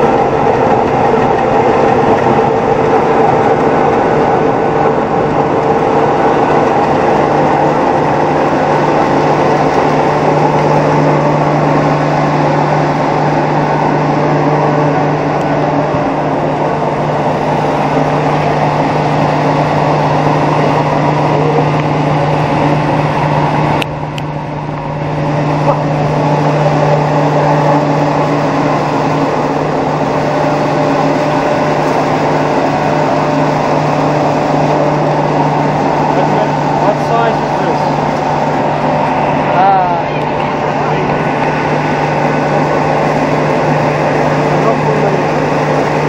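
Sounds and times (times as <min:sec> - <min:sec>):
pellet mill machine hum: 0:00.0 - 0:46.0
steady low hum: 0:00.0 - 0:46.0.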